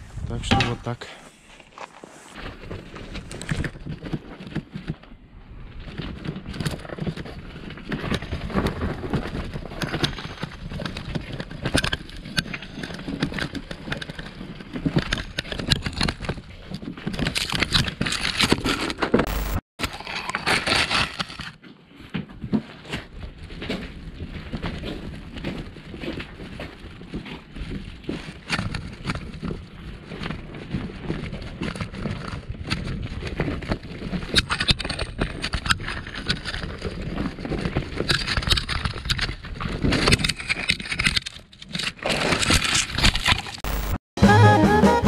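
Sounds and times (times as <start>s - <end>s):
wheelbarrow crunching over icy ground: 0.2s - 43.9s.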